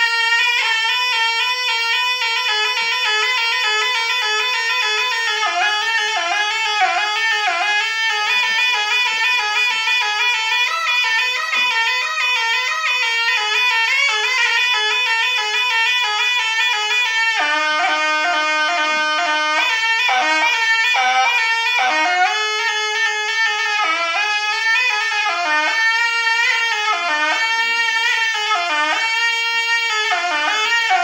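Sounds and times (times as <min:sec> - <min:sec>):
double-reed shawm melody: 0:00.0 - 0:31.0.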